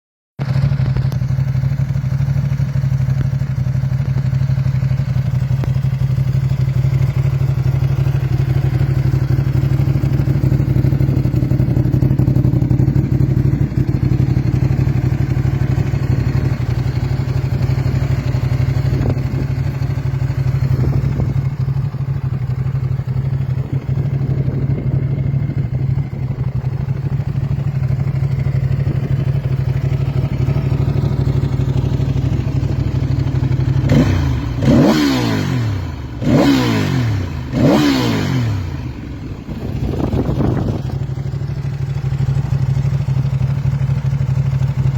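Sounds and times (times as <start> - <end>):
motorcycle engine idling: 0.4 - 44.9.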